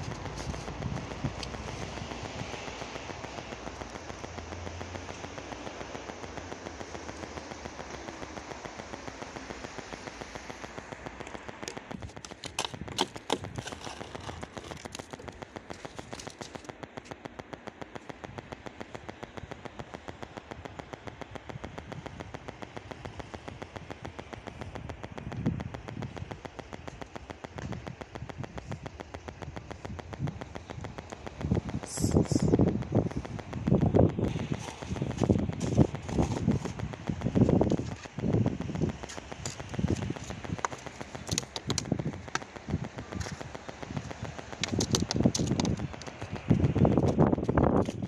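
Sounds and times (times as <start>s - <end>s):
sharp clicks: 0.0s - 48.0s.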